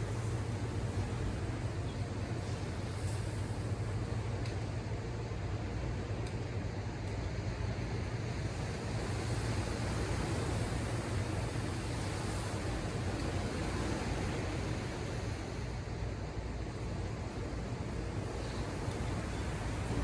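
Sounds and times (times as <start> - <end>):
ocean surf washing ashore: 0.0 - 4.4, 8.2 - 20.0.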